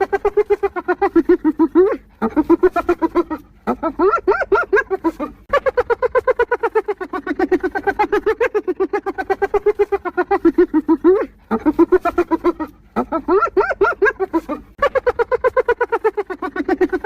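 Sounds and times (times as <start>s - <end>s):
hyena giggling yelps: 0.0s - 17.0s.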